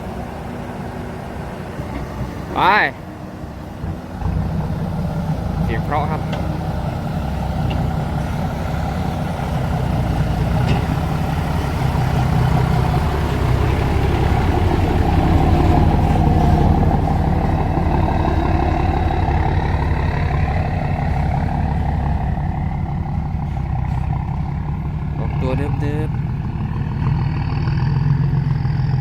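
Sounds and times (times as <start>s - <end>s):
truck diesel engine pulling away: 0.0s - 29.0s.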